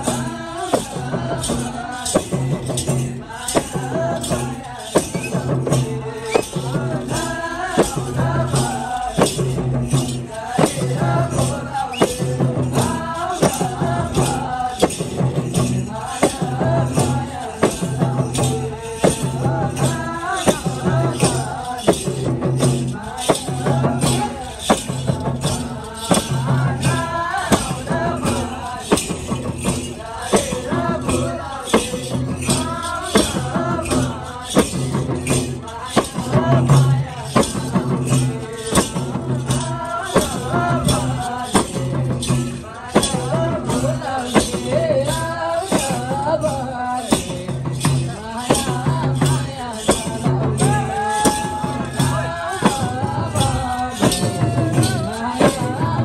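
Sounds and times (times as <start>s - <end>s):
hand drums beating: 0.0s - 56.0s
people singing: 0.0s - 56.0s.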